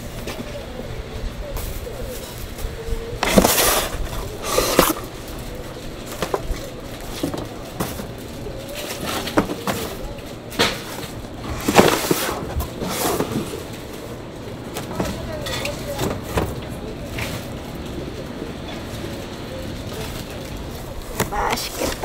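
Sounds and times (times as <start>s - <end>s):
cardboard rustling and scraping: 1.6s - 22.0s.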